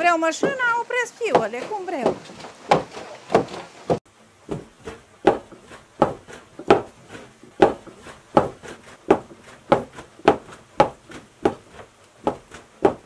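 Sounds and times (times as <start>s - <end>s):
wooden hammers pounding wet cloth: 0.0s - 13.0s.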